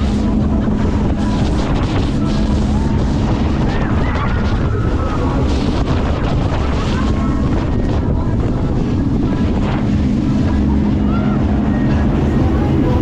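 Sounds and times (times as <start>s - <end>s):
boat engine drone: 0.0s - 13.0s
water rushing in wake: 0.0s - 13.0s
wind buffeting microphone: 0.0s - 13.0s.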